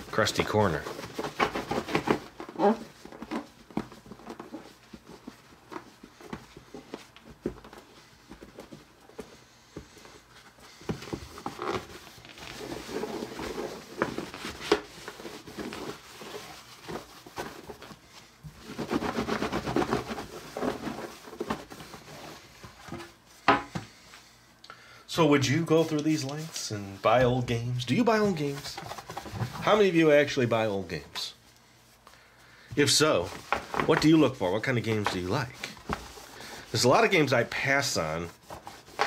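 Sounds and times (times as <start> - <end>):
paper towel scrubbing plastic: 0.0 - 24.1, 25.2 - 32.0, 32.7 - 39.0.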